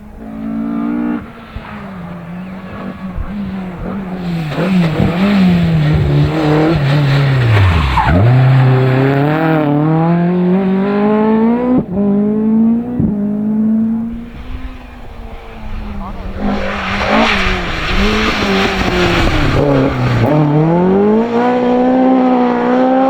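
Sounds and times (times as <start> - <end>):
rally car engine revving: 0.0 - 23.0
tyres skidding: 0.6 - 22.7.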